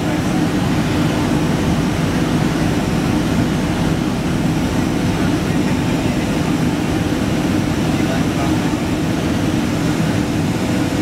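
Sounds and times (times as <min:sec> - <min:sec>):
jet cabin rumble: 0:00.0 - 0:11.0.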